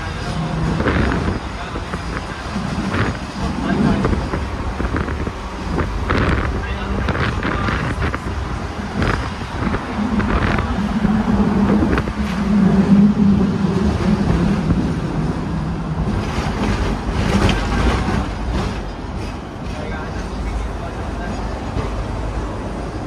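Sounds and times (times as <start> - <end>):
wind noise: 0.0 - 19.6
tram rumble: 0.0 - 23.0.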